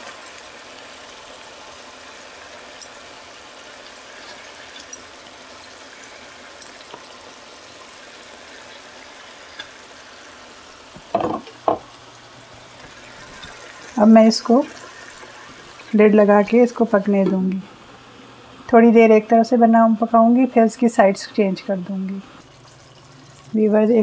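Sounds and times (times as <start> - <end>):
gravy simmering and sizzling: 0.0 - 18.7, 22.4 - 24.0.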